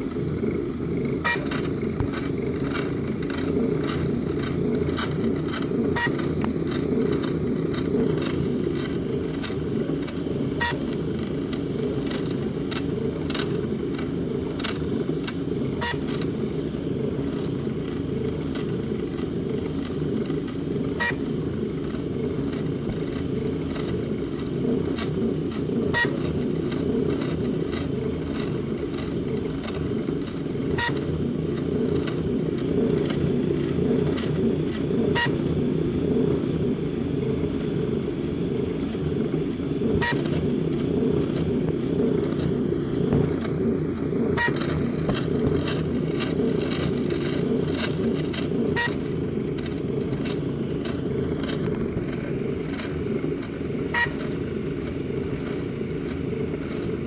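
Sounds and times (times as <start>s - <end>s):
printer clicking: 0.0s - 57.0s
stepper motors whirring: 0.0s - 57.0s.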